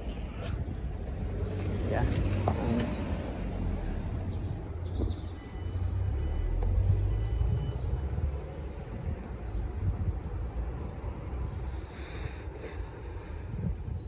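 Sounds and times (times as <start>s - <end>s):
low rumble of vehicles: 0.0s - 14.0s.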